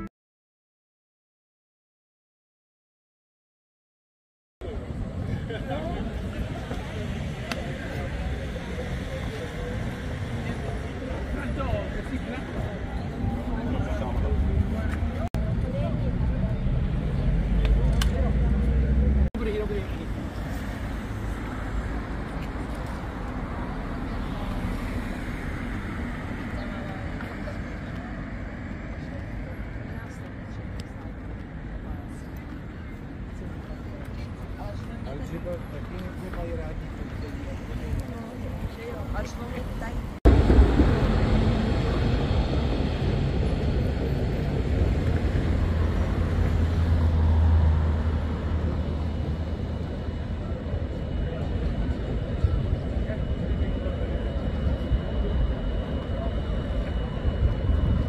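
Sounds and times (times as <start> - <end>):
road traffic passing: 4.6 - 58.0.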